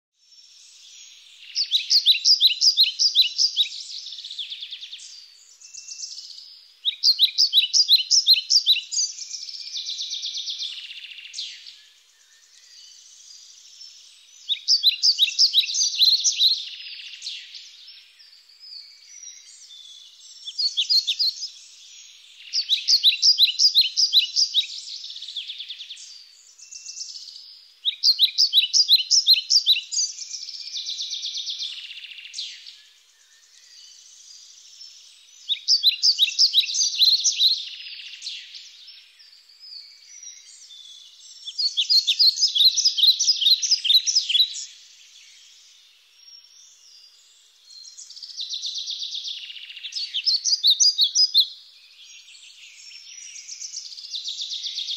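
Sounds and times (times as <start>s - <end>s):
high chirping birdsong: 0.2s - 54.9s.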